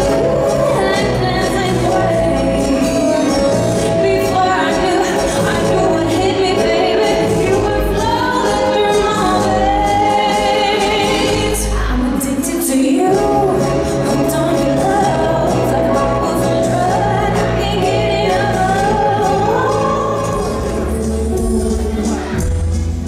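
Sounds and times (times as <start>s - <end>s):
ballroom dance music: 0.0s - 23.0s.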